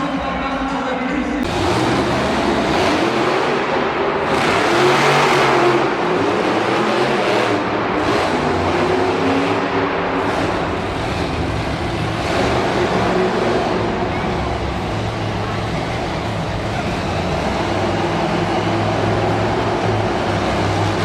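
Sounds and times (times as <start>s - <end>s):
monster truck engine revving: 1.4s - 21.0s.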